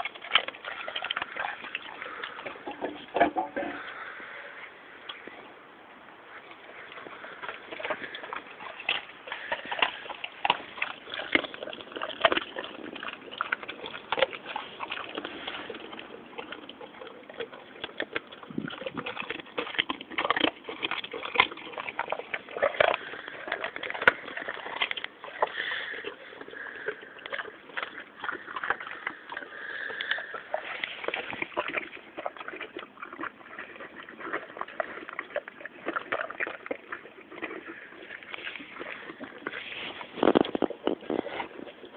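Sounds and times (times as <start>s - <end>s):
dogs crunching bones: 0.0s - 41.9s.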